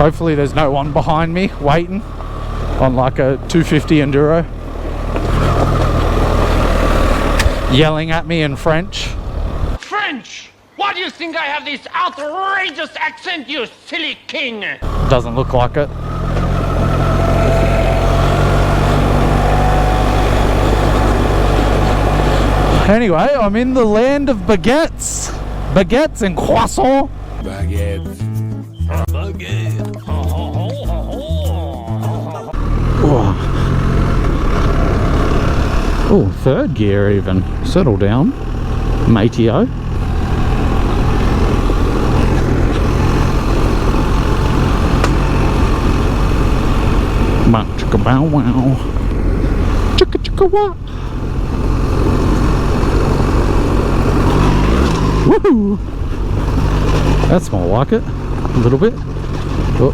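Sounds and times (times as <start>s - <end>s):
motorcycle engine running: 0.0s - 9.8s, 14.8s - 27.4s, 32.5s - 59.9s
rough riding noise: 0.0s - 9.8s, 14.8s - 27.5s, 32.5s - 59.9s.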